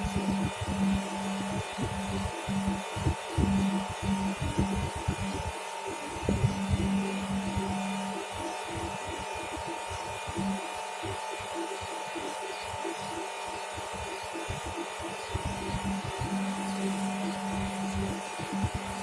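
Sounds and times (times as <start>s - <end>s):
electric buzz: 0.0s - 19.0s.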